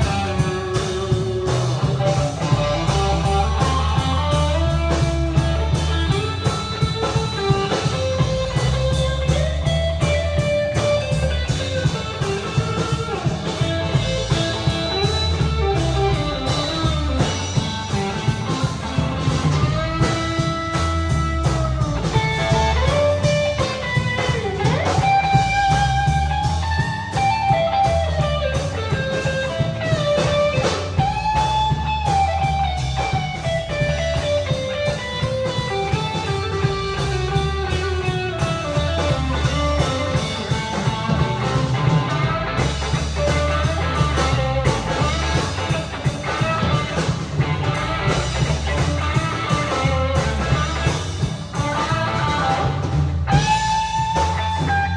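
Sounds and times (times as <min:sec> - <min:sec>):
bass: 0:00.0 - 0:54.9
drums: 0:00.0 - 0:54.9
lead guitar melody: 0:00.0 - 0:54.9.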